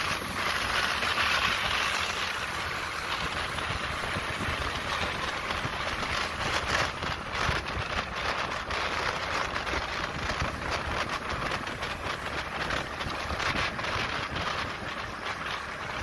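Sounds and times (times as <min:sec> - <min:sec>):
motorbike engine and tyre rumble: 0:00.0 - 0:16.0.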